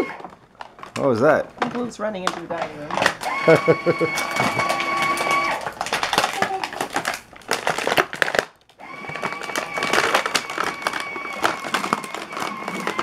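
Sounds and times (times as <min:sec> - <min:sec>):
packaging crinkling: 0:00.0 - 0:13.0
plastic toy pieces clattering: 0:00.6 - 0:13.0.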